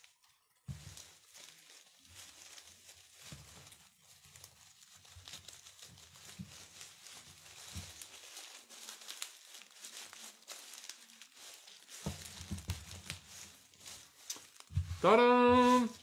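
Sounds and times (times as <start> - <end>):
ivy stems rustling and crackling: 0.0 - 16.0.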